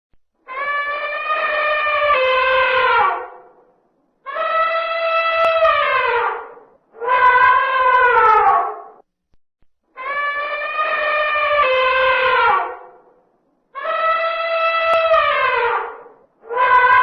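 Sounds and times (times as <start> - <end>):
elephant trumpeting: 0.5 - 3.5, 4.2 - 9.0, 10.0 - 13.0, 13.8 - 17.0.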